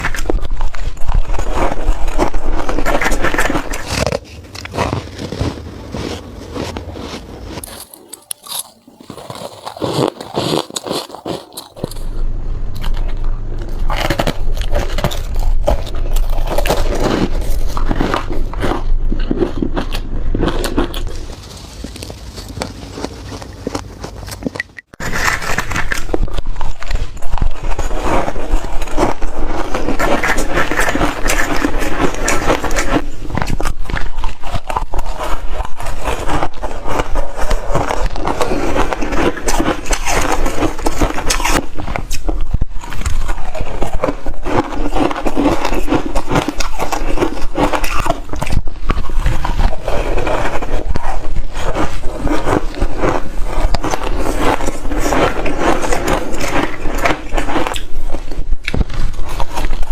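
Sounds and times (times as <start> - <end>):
chewing hard ice crunches: 0.0 - 12.2, 12.8 - 59.9.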